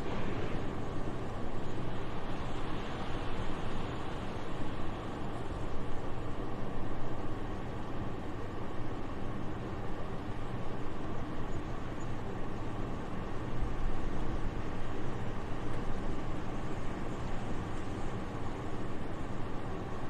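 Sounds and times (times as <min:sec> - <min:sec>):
steady rush of wind: 0:00.0 - 0:20.0.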